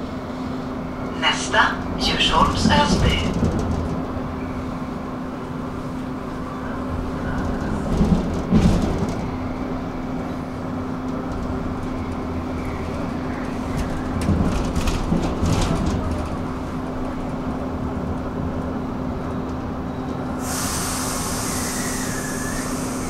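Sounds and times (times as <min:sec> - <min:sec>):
train rumbling along track: 0:00.0 - 0:23.0.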